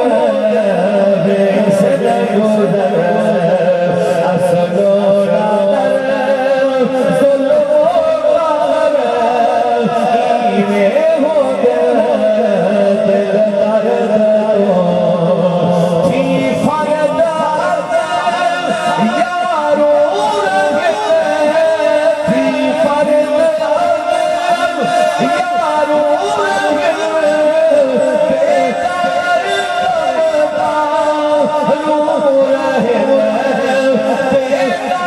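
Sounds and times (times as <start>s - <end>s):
person singing devotional verse: 0.0s - 35.0s.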